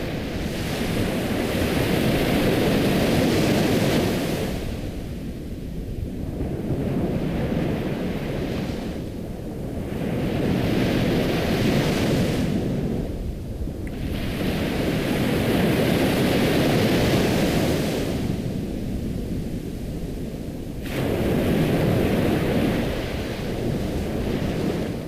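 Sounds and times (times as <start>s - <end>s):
ocean waves washing in: 0.0s - 25.0s.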